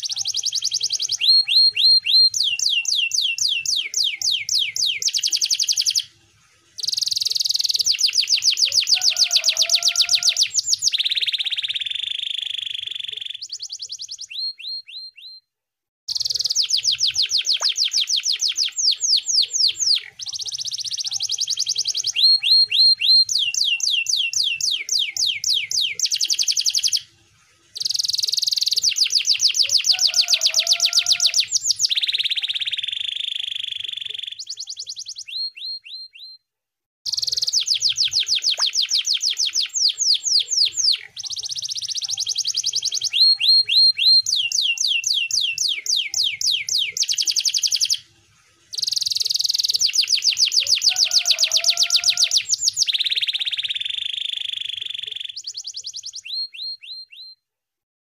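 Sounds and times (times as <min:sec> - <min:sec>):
canary singing trills: 0:00.0 - 0:15.4, 0:16.1 - 0:27.1, 0:27.7 - 0:36.4, 0:37.1 - 0:48.0, 0:48.7 - 0:57.4.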